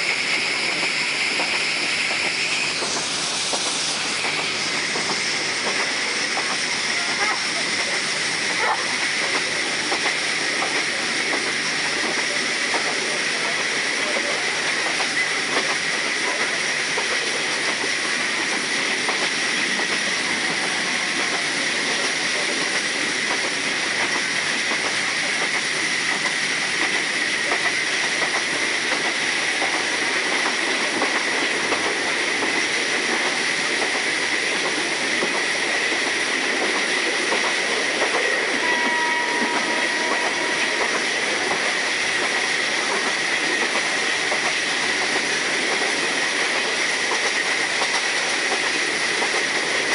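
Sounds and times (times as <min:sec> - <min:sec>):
train wheels rumbling on rails: 0:00.0 - 0:49.9.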